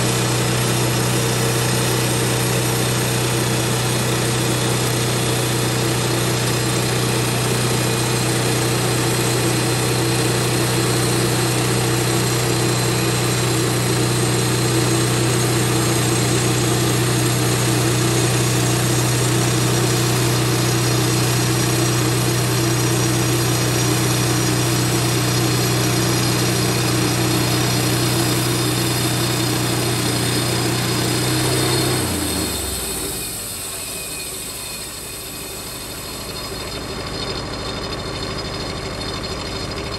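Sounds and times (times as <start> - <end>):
bandsaw sawmill cutting log: 0.0 - 38.0.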